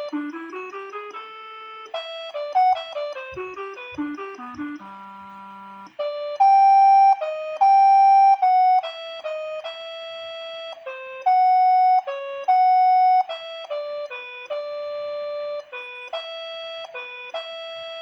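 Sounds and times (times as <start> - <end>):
synthesized flute-like waltz melody: 0.0 - 18.0.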